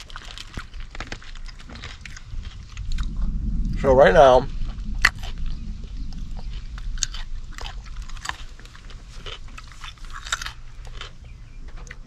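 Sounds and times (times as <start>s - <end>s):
chewing popcorn: 0.0s - 12.0s
low steady hum: 0.0s - 12.0s.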